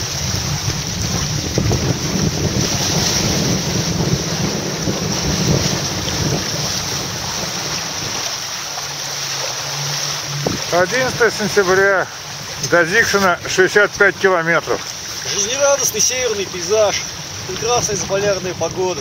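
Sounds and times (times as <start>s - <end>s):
sea washing past hulls: 0.0s - 19.0s
wind buffeting microphone: 0.0s - 19.0s.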